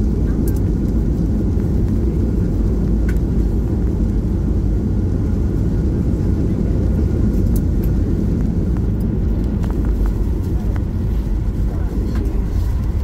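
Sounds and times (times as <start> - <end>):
airplane engine and landing gear rumble: 0.0 - 13.0.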